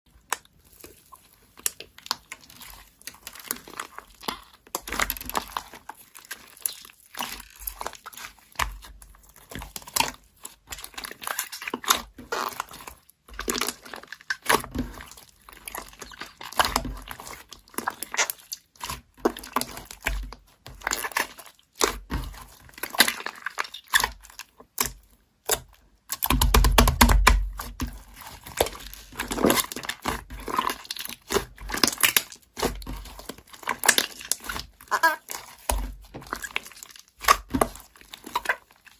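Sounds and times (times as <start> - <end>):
slime squished by hand: 0.1 - 38.9.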